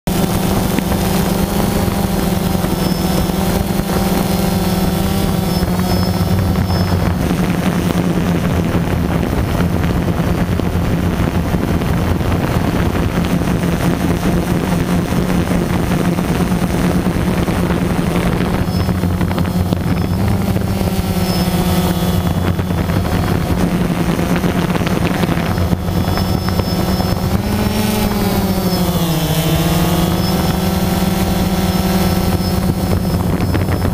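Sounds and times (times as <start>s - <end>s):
drone propellers humming: 0.0s - 33.9s.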